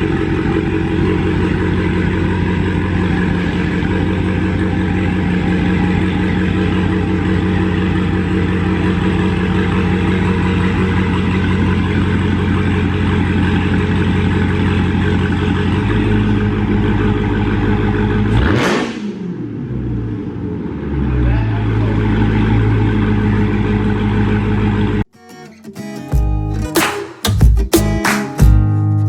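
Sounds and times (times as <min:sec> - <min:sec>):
car engine droning at cruise: 0:00.0 - 0:25.1.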